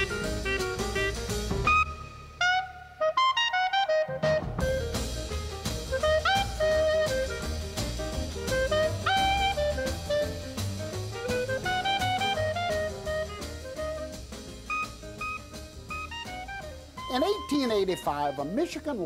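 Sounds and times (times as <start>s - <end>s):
bass line: 0.0s - 2.3s, 4.2s - 18.3s
drum kit: 0.0s - 2.5s, 4.2s - 19.0s
saxophone melody: 0.0s - 18.6s.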